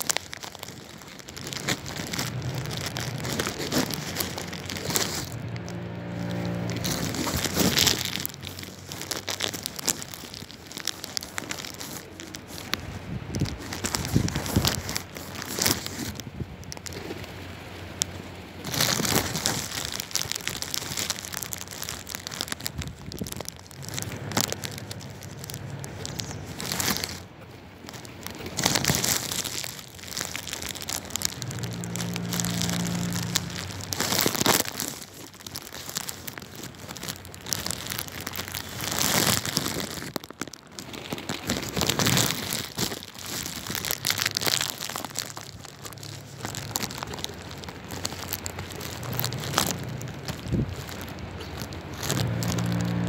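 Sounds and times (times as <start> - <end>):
pigeons crackling rustle: 0.0 - 53.0.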